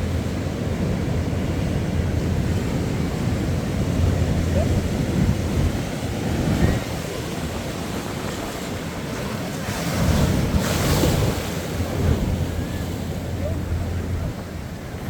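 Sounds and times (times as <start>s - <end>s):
ocean surf breaking: 0.0s - 15.0s
wind rumbling on microphone: 0.0s - 15.0s.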